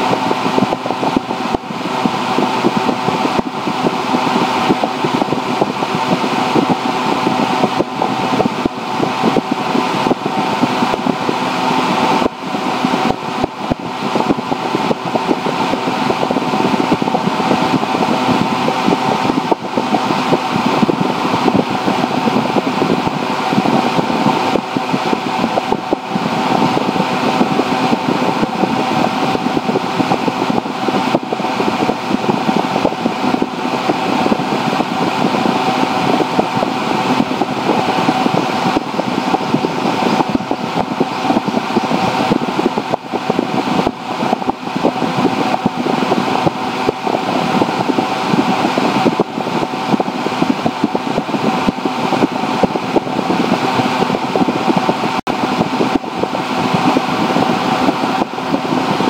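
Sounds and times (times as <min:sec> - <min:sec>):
steady mechanical noise: 0:00.0 - 0:59.0.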